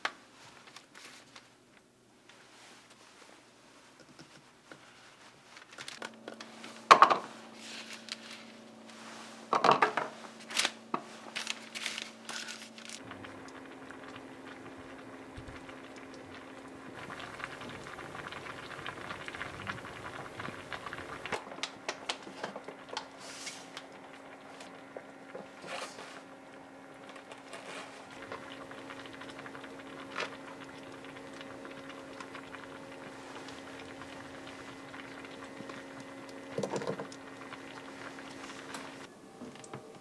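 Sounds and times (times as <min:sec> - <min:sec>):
crinkling: 0:00.0 - 0:26.3, 0:26.9 - 0:40.0
low steady hum: 0:00.2 - 0:40.0.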